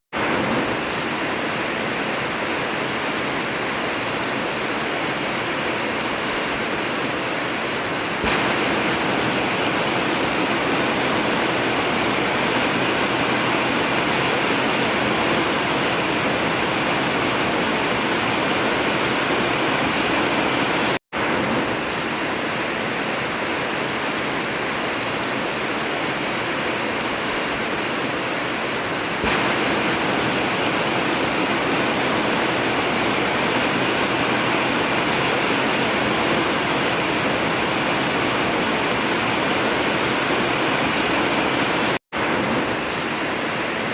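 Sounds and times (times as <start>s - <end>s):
heavy rain on a tin roof: 0.1s - 43.9s.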